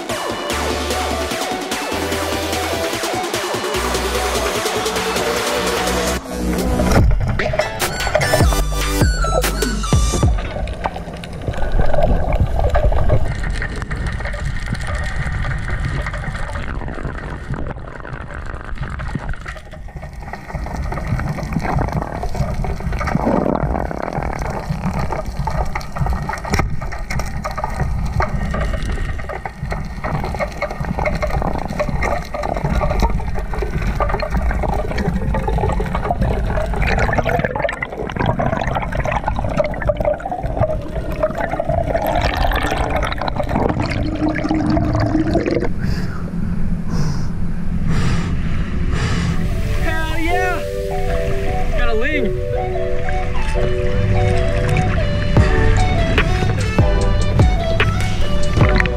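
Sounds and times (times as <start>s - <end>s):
water gurgling: 0.0s - 58.9s
muffled rush of water underwater: 5.2s - 9.5s, 10.1s - 58.9s.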